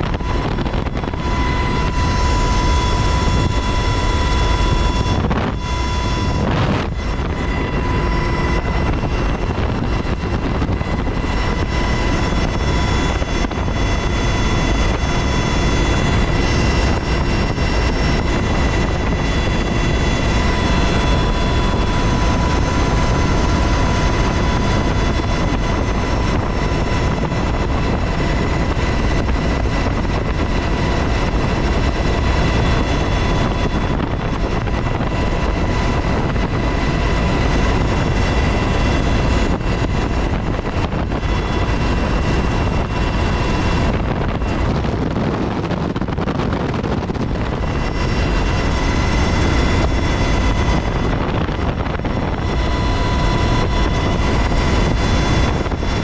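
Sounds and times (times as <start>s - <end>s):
helicopter rotor and turbine noise: 0.0s - 56.0s
high whine: 0.0s - 56.0s.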